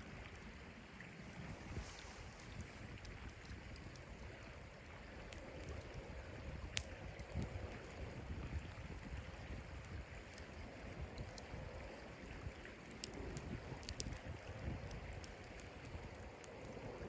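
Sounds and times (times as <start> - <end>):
low wind rumble: 0.0 - 17.0.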